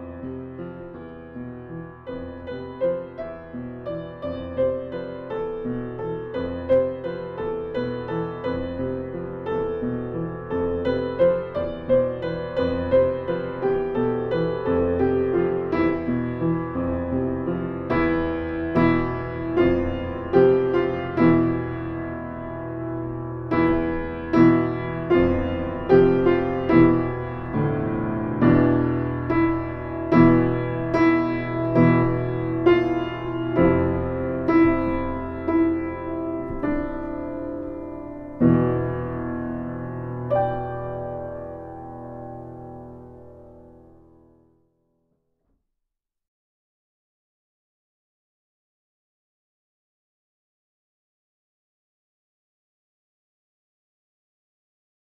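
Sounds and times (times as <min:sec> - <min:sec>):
slow piano chords: 0:00.0 - 0:44.6.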